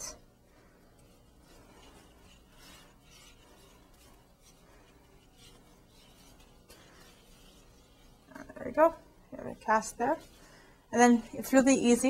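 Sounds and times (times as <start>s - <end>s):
wet hands rubbing plaster cast: 0.0s - 11.3s.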